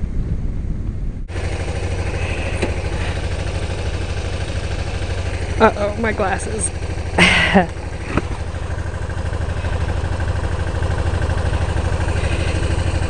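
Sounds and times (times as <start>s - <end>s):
motorcycle engine idling: 1.2s - 13.0s.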